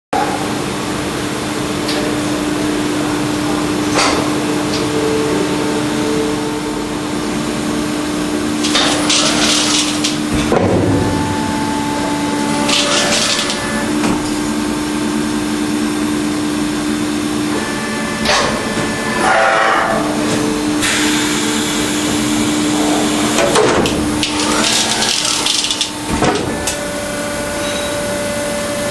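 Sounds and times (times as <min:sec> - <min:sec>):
milling machine hum: 0:00.2 - 0:28.9.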